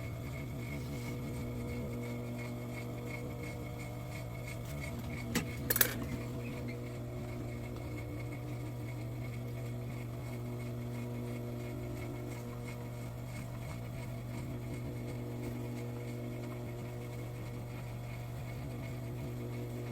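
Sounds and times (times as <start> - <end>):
steady electrical hum: 0.0 - 19.9.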